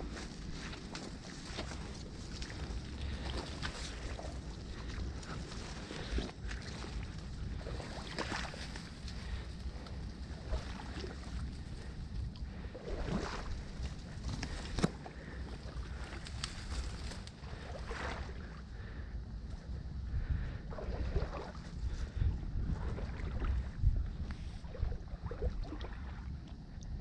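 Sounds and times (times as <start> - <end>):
water sloshing: 0.0 - 18.9, 20.7 - 26.8
wind rumble on microphone: 0.0 - 27.0.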